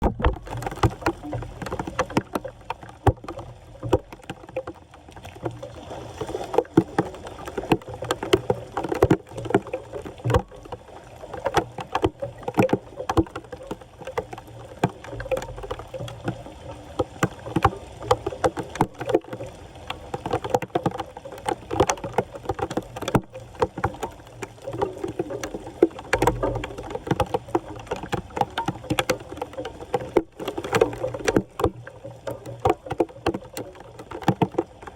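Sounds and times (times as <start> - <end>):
floodwater splashing and sloshing: 0.0 - 34.9.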